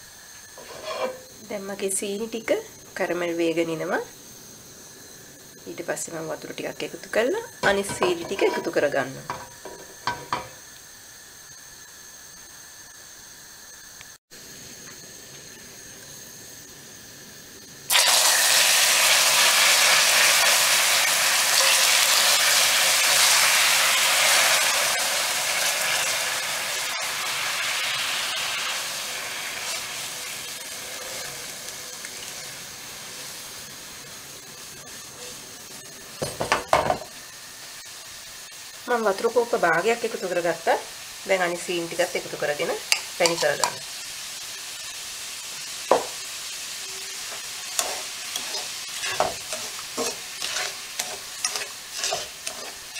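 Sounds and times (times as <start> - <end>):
loud sizzling hiss: 0.0 - 52.9
sugar caramelizing with faint hiss: 0.0 - 52.9.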